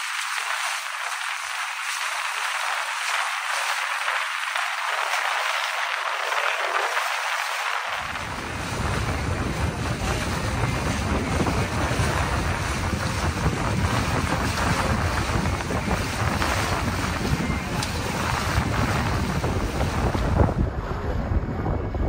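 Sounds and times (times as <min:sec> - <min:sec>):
wind buffeting microphone: 0:01.9 - 0:22.0.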